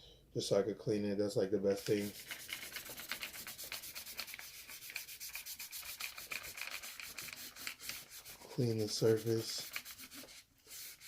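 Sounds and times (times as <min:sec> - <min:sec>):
rubbing over a plastic lens: 0:01.7 - 0:11.0.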